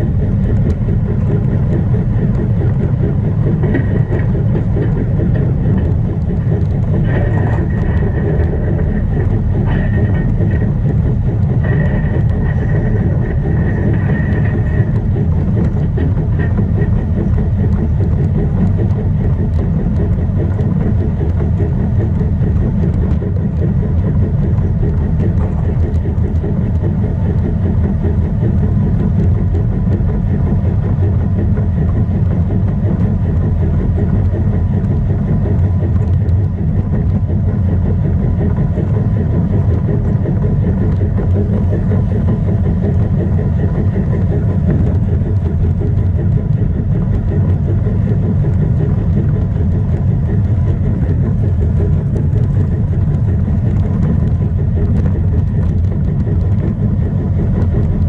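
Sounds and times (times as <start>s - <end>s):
faint motor whine: 0.0s - 58.0s.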